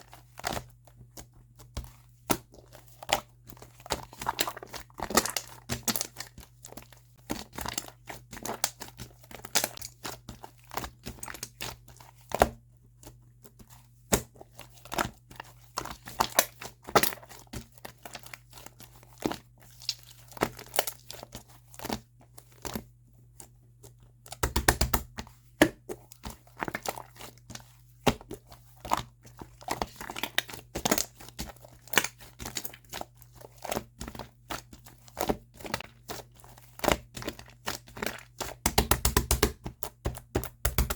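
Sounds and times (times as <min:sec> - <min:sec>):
slime squishing with sticky clicks: 0:00.1 - 0:40.9.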